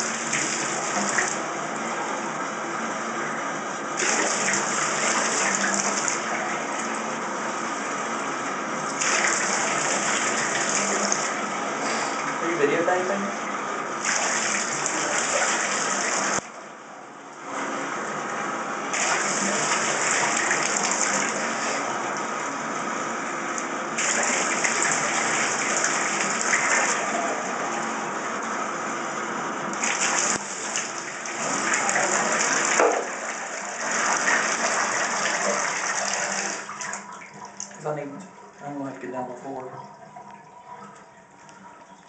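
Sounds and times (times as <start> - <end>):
water running into bathtub: 0.0 - 2.4, 3.7 - 16.5, 18.2 - 28.6, 29.6 - 42.0.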